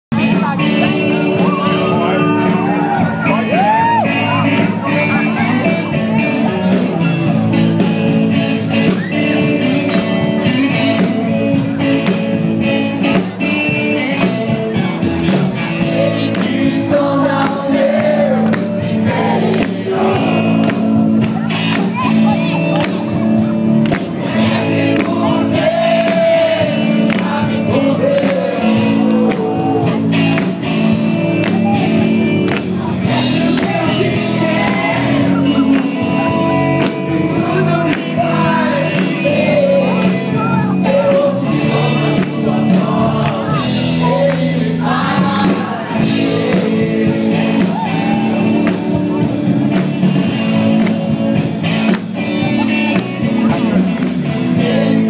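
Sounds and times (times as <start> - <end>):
live rock band playing loudly: 0.1 - 55.0
lead singer singing: 0.2 - 55.0.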